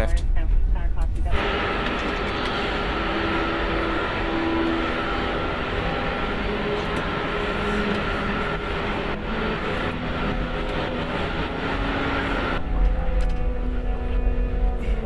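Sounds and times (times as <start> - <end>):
aircraft engine and ventilation hiss: 0.0 - 15.0
faint steady tones: 1.2 - 15.0.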